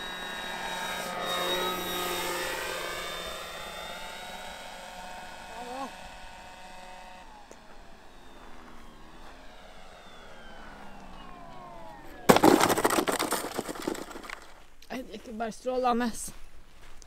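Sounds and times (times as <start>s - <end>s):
electric plane motor whining: 0.0s - 14.5s
plane landing on grass: 0.2s - 15.3s.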